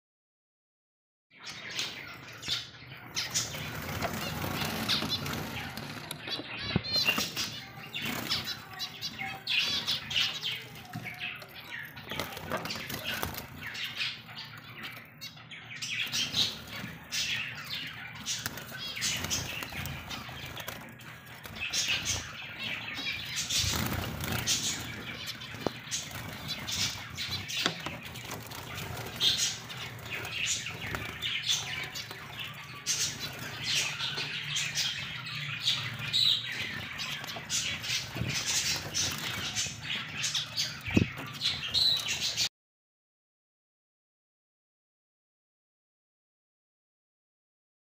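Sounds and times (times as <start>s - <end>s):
budgerigars chirping and chattering: 1.4s - 42.5s.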